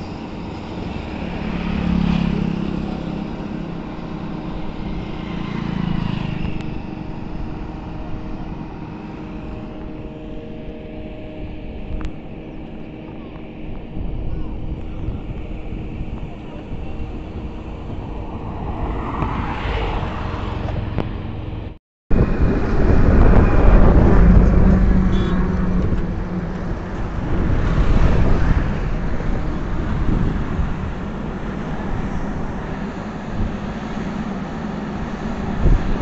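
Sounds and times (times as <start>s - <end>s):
distant engine hum: 0.0s - 36.0s.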